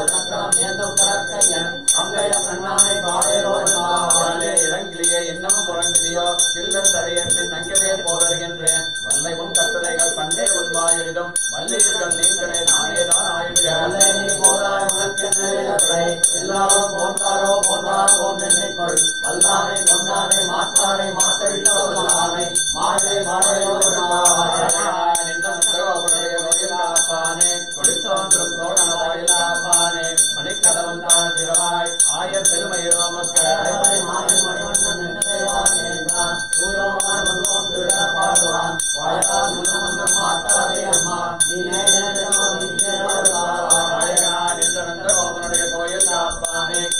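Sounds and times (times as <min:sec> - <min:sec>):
brass hand bell ringing: 0:00.0 - 0:46.9
person chanting: 0:00.0 - 0:46.9.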